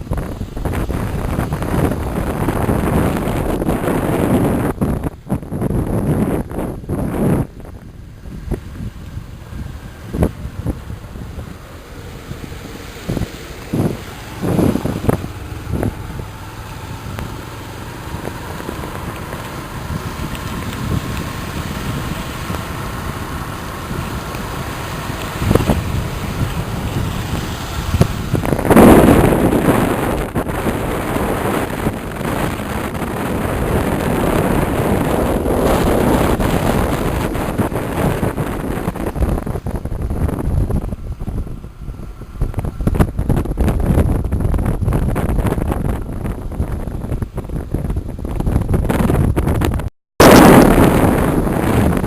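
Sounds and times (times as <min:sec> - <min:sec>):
rain: 0:00.0 - 0:43.5
motorcycle running: 0:00.0 - 0:52.0
wind buffeting microphone: 0:00.0 - 0:52.0.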